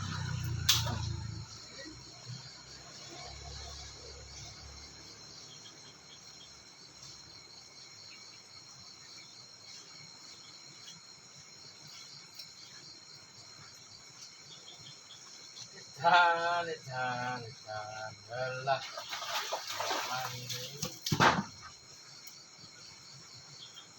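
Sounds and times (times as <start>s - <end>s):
insects trilling: 0.0s - 23.9s.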